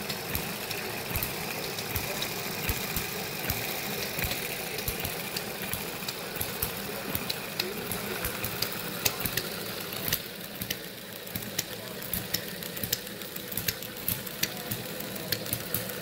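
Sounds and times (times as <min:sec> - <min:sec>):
model gas engine popping: 0:00.0 - 0:16.0
steady mechanical hum: 0:00.0 - 0:16.0.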